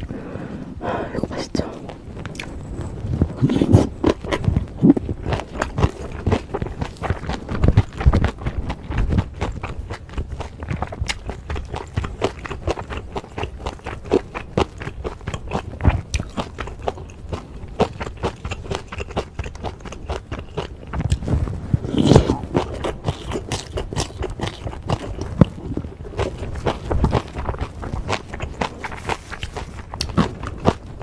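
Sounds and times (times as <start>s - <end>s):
wet mouth noises: 0.8s - 2.6s, 3.3s - 8.4s, 9.0s - 30.8s
close chewing with crisp clicks: 1.7s - 2.6s, 3.2s - 21.3s, 21.9s - 31.0s.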